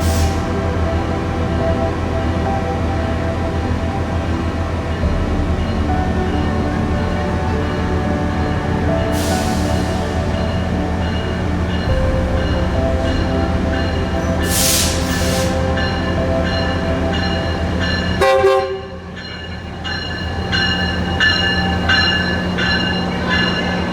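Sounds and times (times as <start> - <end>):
train horn: 0.0 - 19.2
train running noise: 0.0 - 23.9.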